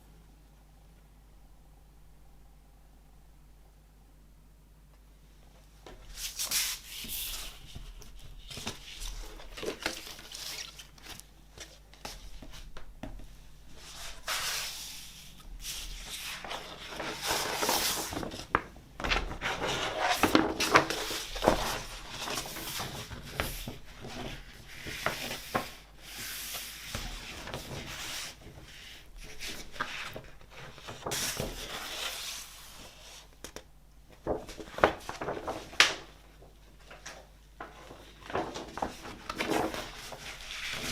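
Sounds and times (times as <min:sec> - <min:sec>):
paper sleeves rustling: 0:05.9 - 0:12.8, 0:13.6 - 0:33.4, 0:34.1 - 0:40.9.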